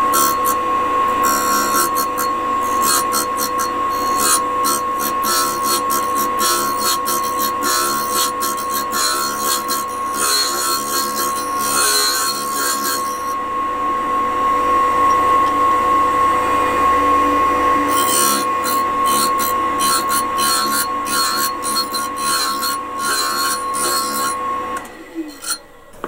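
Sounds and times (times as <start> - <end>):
hissing grinding of drill bit: 0.0 - 13.4, 17.7 - 26.0
grinder whining: 0.0 - 13.9, 14.8 - 26.0.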